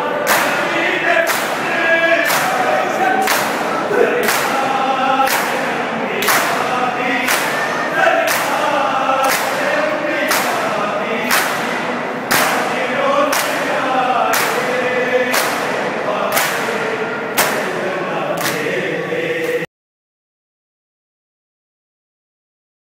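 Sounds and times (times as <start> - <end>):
men chanting a lament: 0.0 - 19.7.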